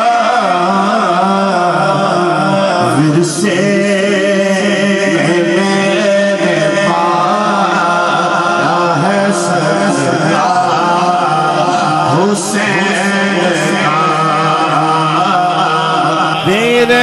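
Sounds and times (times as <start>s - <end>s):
man singing: 0.0s - 17.0s.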